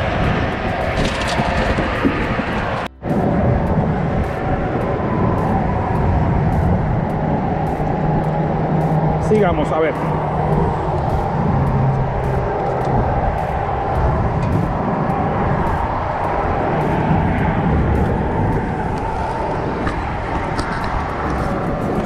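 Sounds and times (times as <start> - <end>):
road traffic: 0.0 - 22.0
wind roar: 0.0 - 22.0.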